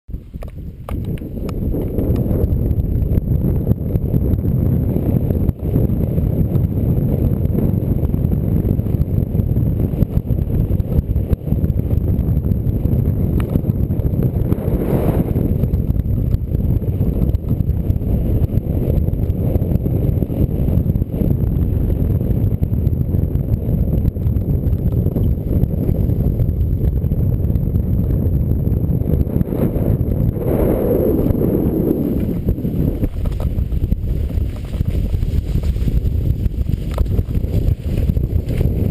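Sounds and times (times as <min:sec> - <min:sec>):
low rumble and rattle: 0:00.1 - 0:38.9
wind buffeting microphone: 0:00.1 - 0:38.9.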